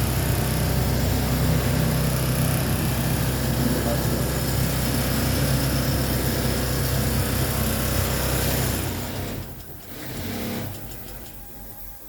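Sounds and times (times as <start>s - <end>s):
electric motor humming: 0.0s - 11.4s.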